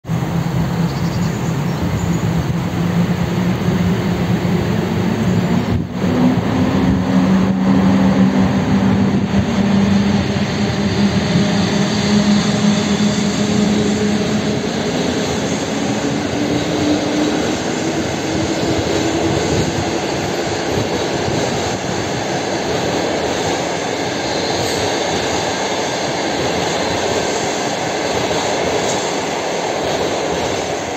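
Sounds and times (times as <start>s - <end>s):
passenger train passing: 0.0s - 30.9s.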